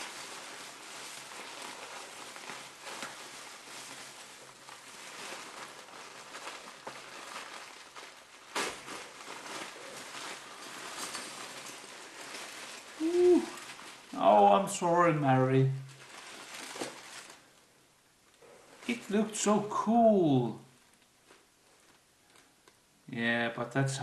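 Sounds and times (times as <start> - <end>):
bubble wrap crinkling: 0.0 - 22.9.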